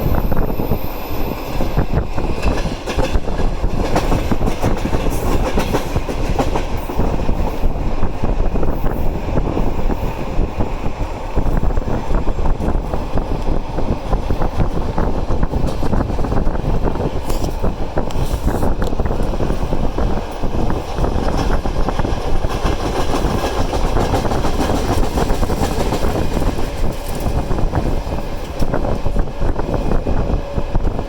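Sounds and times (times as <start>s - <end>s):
train carriages rumbling: 0.0s - 31.0s
wheels clattering over rails: 1.5s - 7.4s, 11.4s - 31.0s.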